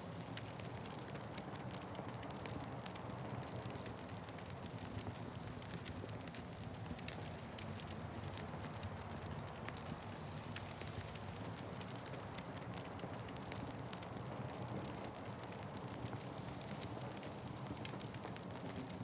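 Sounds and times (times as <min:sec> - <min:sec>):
wood fire crackling: 0:00.1 - 0:19.0.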